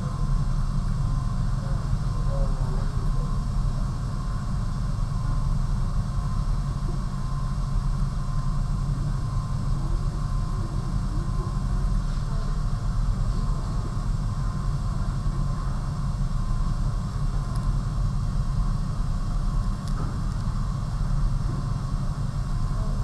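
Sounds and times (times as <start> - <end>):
faint high hum: 0.0 - 23.0.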